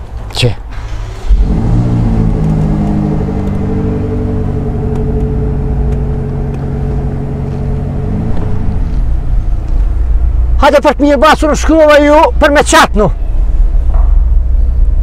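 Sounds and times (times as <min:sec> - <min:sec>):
car engine starting and running: 0:00.0 - 0:12.8.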